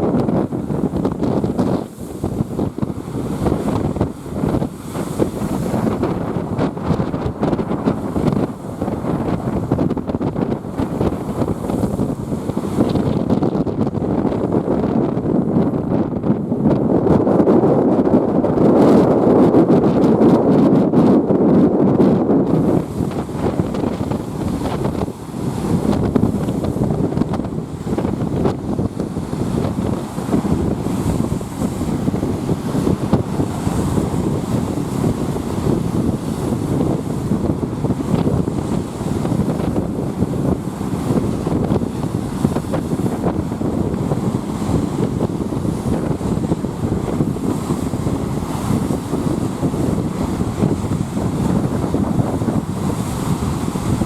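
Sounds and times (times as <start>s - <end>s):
waves washing on lake: 0.0s - 54.0s
wind buffeting microphone: 0.0s - 54.0s.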